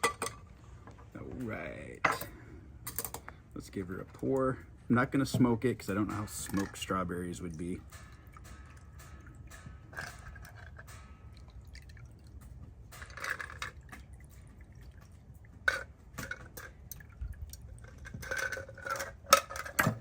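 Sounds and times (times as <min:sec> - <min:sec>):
dripping: 0:00.0 - 0:20.0.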